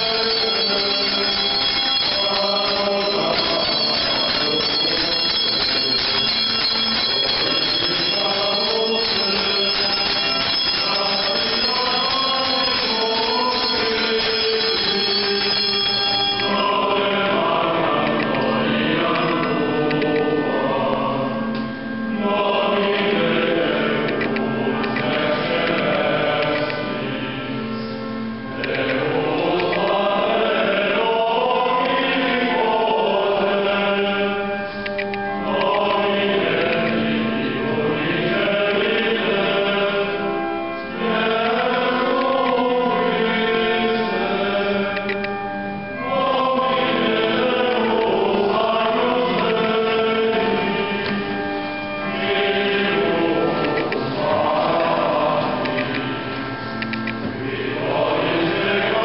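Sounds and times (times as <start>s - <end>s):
choir singing chant: 0.0s - 27.9s, 28.6s - 45.3s, 46.0s - 59.0s.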